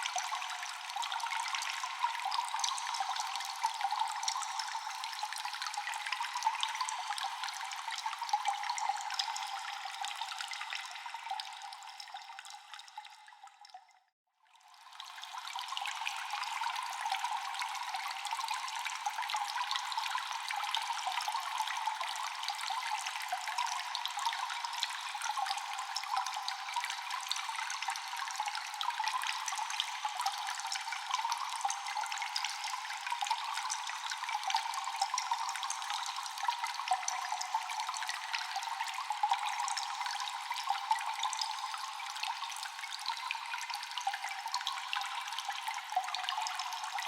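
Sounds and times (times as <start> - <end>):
water dripping with echo: 0.0 - 47.0.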